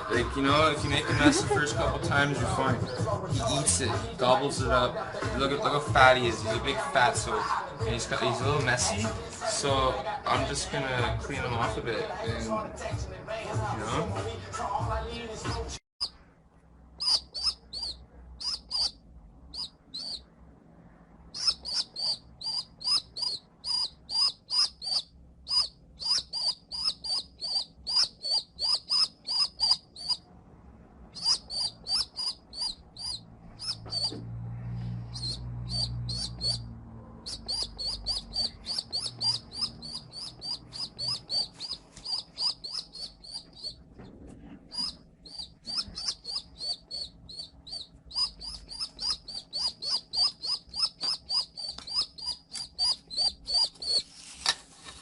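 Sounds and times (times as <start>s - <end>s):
baby pigeon peeping: 0.0s - 12.5s, 13.6s - 16.2s, 17.0s - 20.3s, 21.3s - 30.2s, 31.1s - 54.5s.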